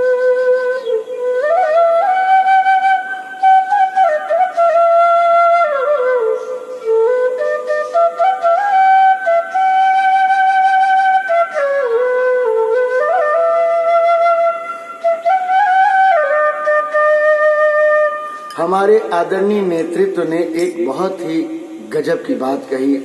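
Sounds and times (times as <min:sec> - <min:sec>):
solo flute melody: 0:00.0 - 0:22.0.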